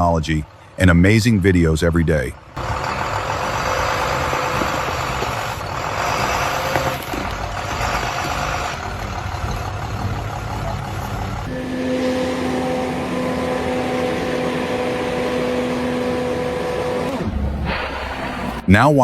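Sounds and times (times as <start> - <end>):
heavy diesel machinery running: 2.1 - 18.7.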